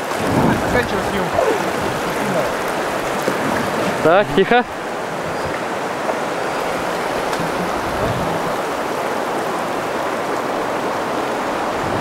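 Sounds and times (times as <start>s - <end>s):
river rapid rushing: 0.0s - 12.0s.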